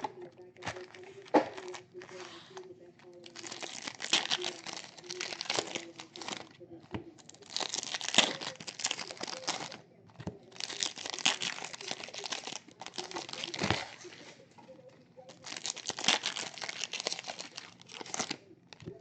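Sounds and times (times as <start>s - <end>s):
packaging crinkling and tearing: 0.0s - 19.0s.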